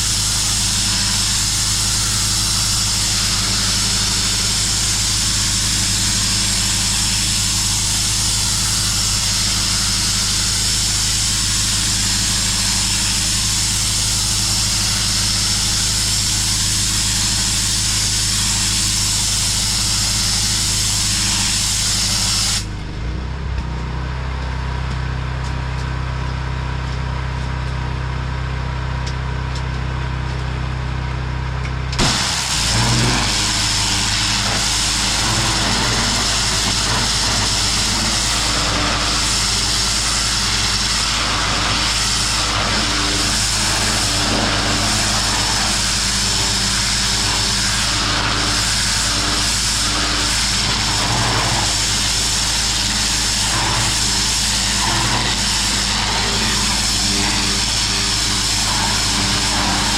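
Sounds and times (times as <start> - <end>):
high-pressure spray hissing: 0.0 - 22.7, 32.0 - 59.9
pressure washer engine: 0.0 - 59.9.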